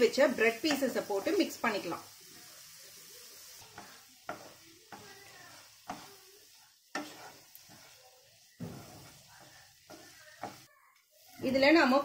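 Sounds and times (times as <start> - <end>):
faint sizzle: 0.0 - 12.0
spatula scraping a frying pan: 0.0 - 12.0.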